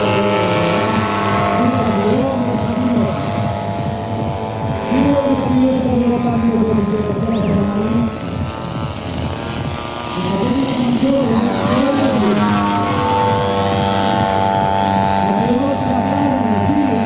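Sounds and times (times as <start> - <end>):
model plane engines and propellers: 0.0 - 17.0.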